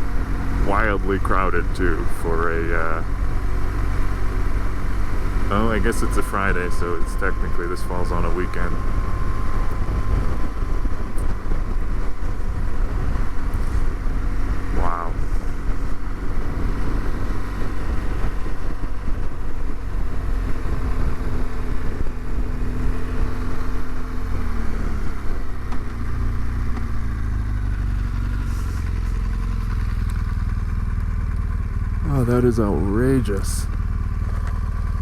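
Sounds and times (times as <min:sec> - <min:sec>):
motorcycle engine running: 0:00.0 - 0:35.0
wind rumble: 0:00.0 - 0:35.0.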